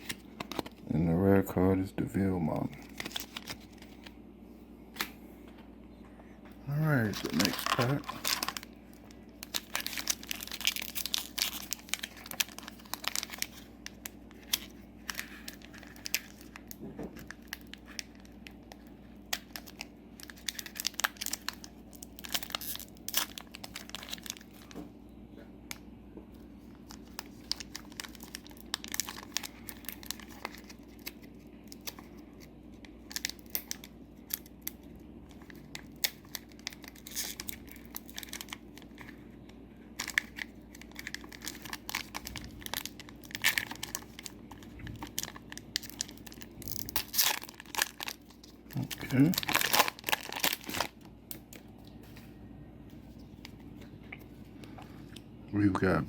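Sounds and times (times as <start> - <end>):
foil wrapper crinkling and tearing: 2.5 - 4.2, 6.7 - 24.8, 26.4 - 51.9.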